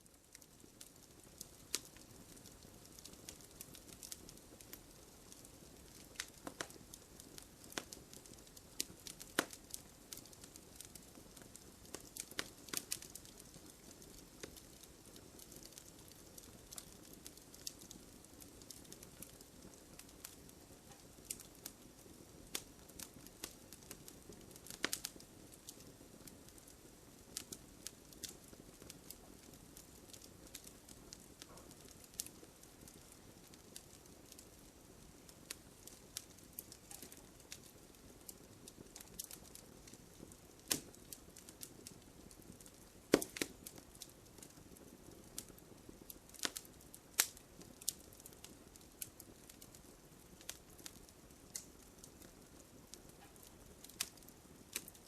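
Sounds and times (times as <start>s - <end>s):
bonfire crackling: 0.0s - 55.0s
soft rush of flame: 0.0s - 55.0s.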